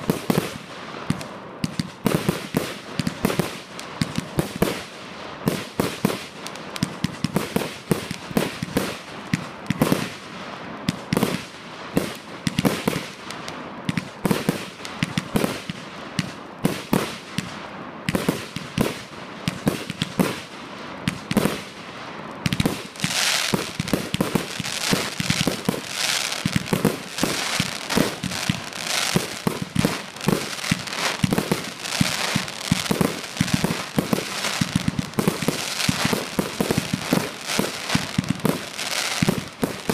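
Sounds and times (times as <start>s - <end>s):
fireworks launching and bursting: 0.0s - 39.9s
steady hiss: 0.0s - 39.9s.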